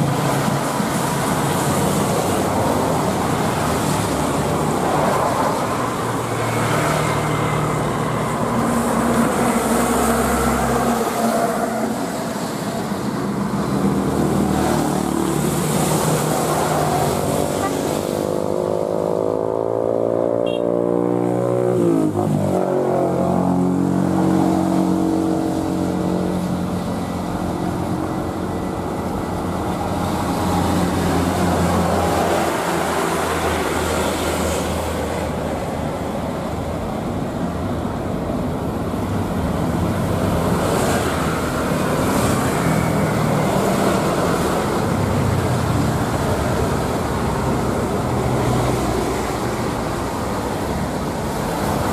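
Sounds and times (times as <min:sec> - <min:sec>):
jet engines passing: 0:00.0 - 0:51.9.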